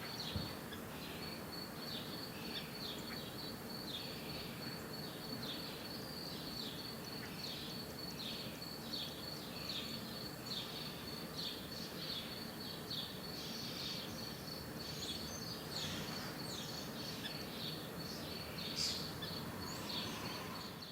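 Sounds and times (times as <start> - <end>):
birds chirping: 0.0 - 20.9
low background hum: 0.0 - 20.9.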